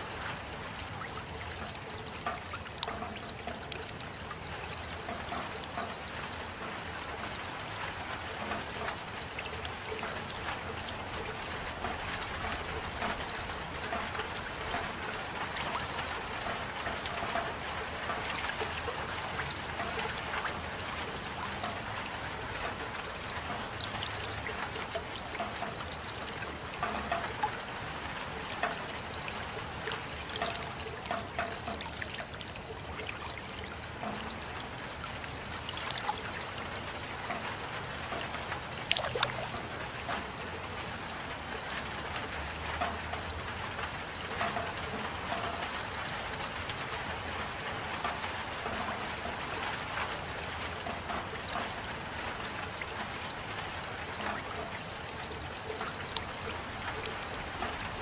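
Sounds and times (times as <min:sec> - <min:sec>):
raindrops ticking: 0:00.0 - 0:58.0
steady rain: 0:00.0 - 0:58.0.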